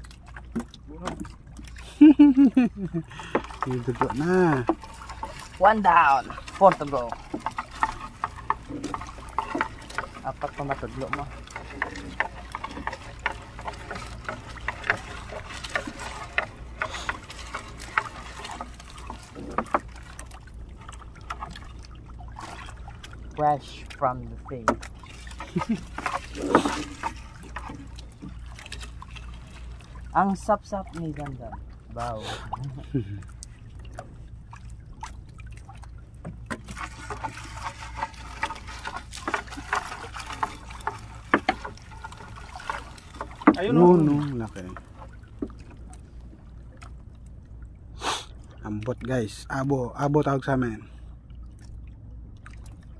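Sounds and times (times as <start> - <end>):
net and floats knocking hull: 0.0 - 47.7
fishing net hauled over boat: 0.0 - 52.9
steady low hum: 0.0 - 52.9
steady low rumble: 0.0 - 52.9
water dripping and splashing: 0.0 - 52.9.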